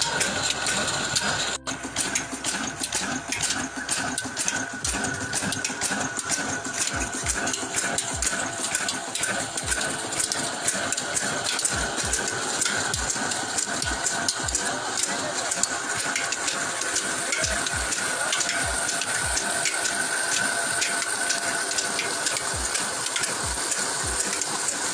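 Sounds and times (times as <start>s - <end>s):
mechanical clatter: 0.0s - 24.9s.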